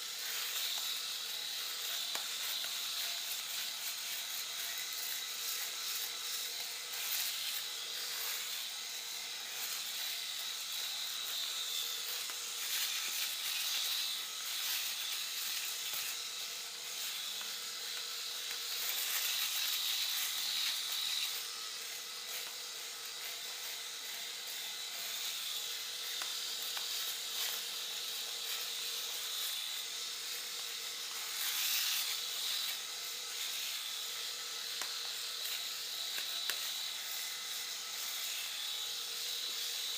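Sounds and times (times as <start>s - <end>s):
electric razor whining: 0.0s - 39.9s.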